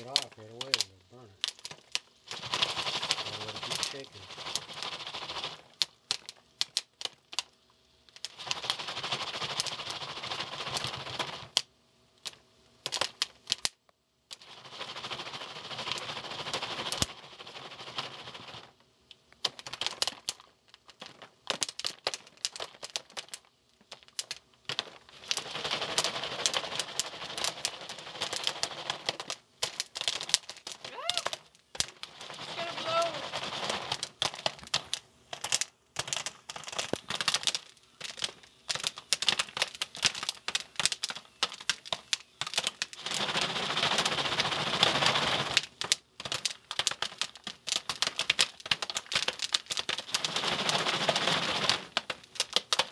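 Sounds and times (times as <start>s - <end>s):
popcorn popping: 0.0s - 52.9s
pan shaken on stove: 1.5s - 7.2s, 8.2s - 11.6s, 14.4s - 18.8s, 24.0s - 52.9s.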